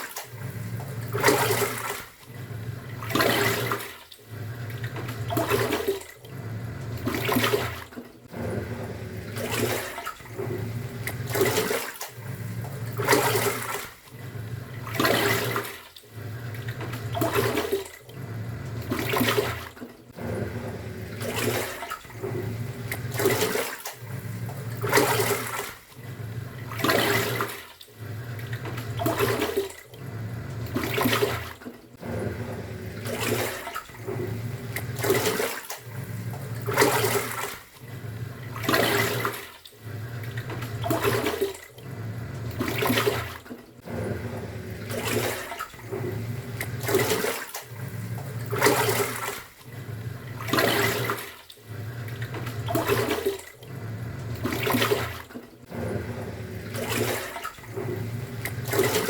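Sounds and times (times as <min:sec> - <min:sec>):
washing machine motor humming: 0:00.0 - 0:59.0
water sloshing in tub: 0:00.0 - 0:59.0.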